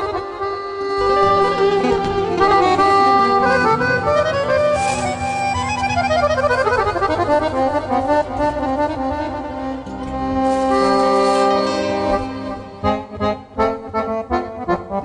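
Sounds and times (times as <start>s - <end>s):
accordion playing quick melody: 0.0s - 15.0s.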